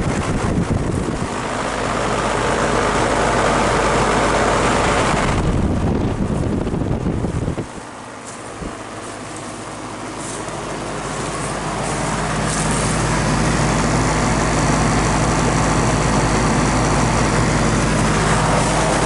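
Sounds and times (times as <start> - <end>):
heat pump humming and rushing: 0.0 - 19.0.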